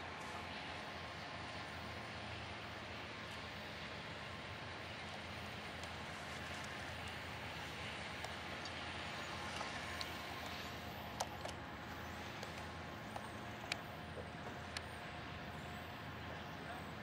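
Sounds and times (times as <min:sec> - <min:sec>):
distant train rumble and hiss: 0:00.0 - 0:17.0.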